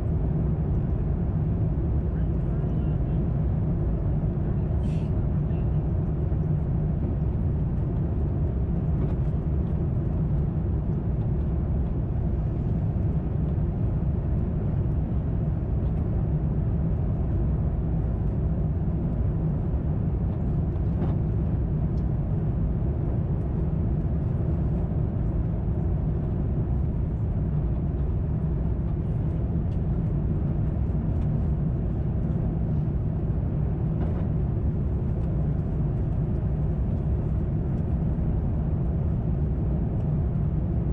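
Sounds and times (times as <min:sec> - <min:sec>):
aircraft cabin drone: 0:00.0 - 0:40.9.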